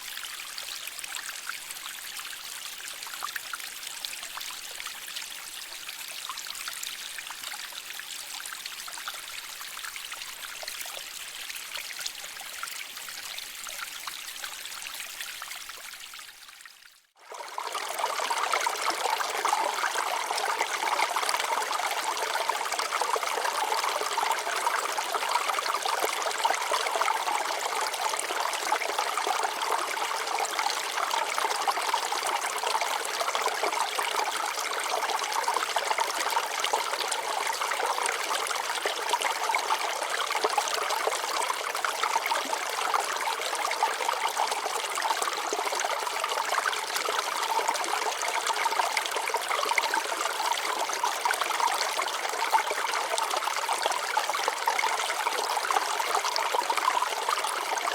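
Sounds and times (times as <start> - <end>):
water trickling over rocks: 0.0 - 57.9.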